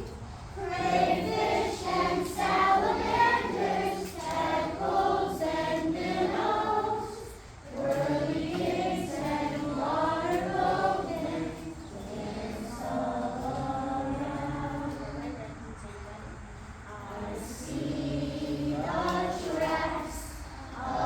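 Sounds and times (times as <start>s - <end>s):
group of voices singing: 0.0s - 21.0s.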